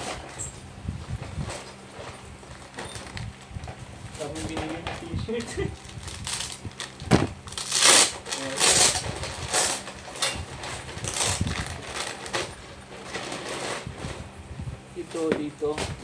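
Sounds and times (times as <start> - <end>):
nylon bag rustling and crinkling: 1.2 - 14.3.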